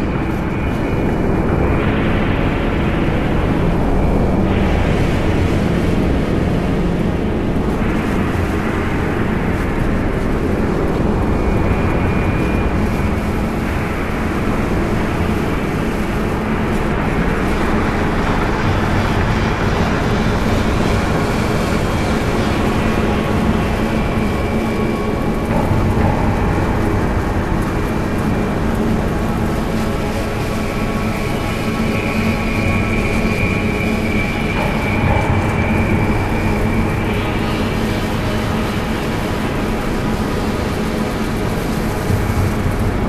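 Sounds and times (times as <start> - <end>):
dense droning soundtrack music: 0.0 - 43.0.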